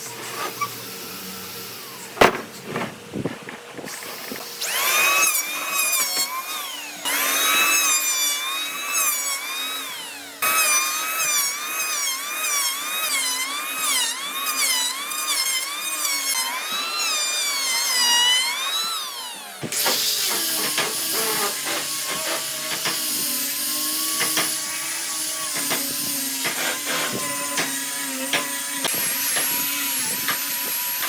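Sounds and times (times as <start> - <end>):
power tool whining on wood: 0.0 - 31.0.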